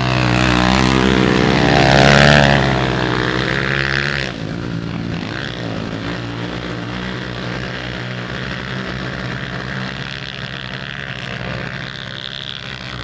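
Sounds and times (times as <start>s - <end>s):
quad bike engines droning: 0.0s - 13.0s.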